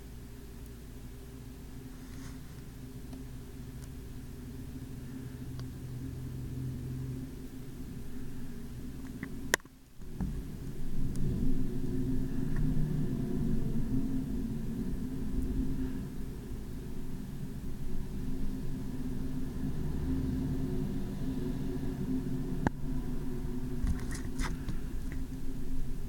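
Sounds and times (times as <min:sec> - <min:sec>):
low rumble with hum: 0:00.0 - 0:26.0.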